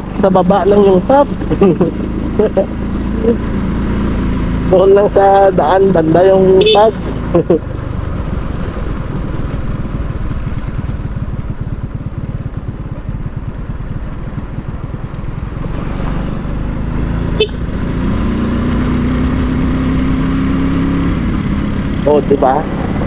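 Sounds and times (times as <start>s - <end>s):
motorcycle engine running: 0.0s - 23.0s
road rumble: 0.0s - 23.0s.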